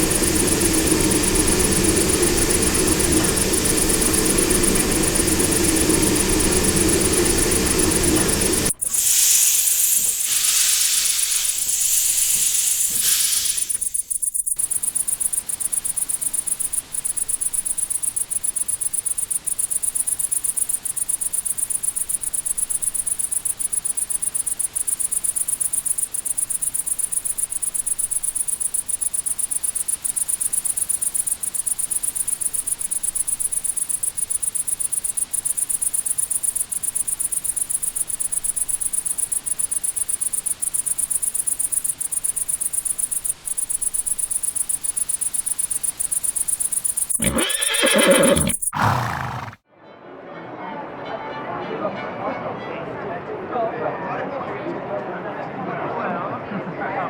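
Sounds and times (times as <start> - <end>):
crickets chirping: 0.0 - 49.6.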